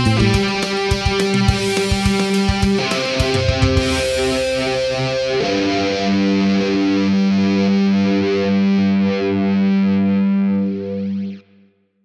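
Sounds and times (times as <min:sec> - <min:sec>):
distorted electric guitar chord: 0:00.0 - 0:11.4.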